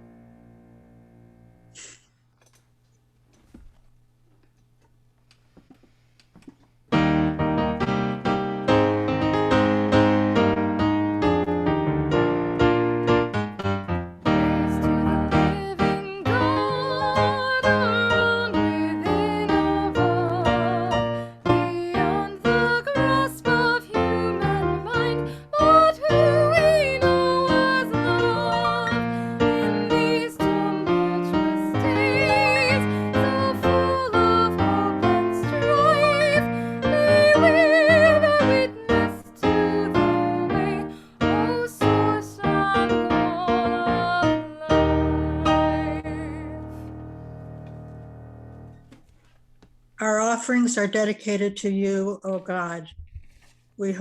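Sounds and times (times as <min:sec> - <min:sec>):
piano music: 0:00.0 - 0:01.8, 0:06.9 - 0:48.9.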